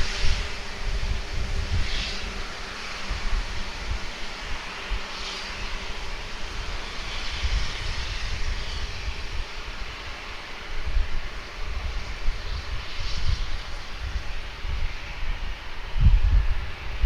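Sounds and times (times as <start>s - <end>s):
jet engines running: 0.0s - 17.0s
wind buffeting microphone: 0.0s - 17.0s.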